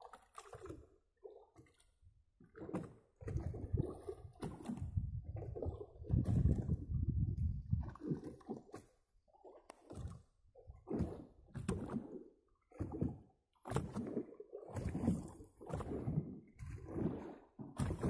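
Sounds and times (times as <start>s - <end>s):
water slapping against boat hull: 0.0s - 1.8s, 2.4s - 18.0s.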